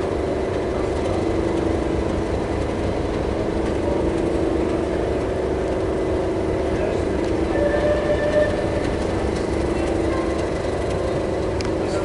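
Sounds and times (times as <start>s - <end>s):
train engine droning: 0.0s - 12.0s.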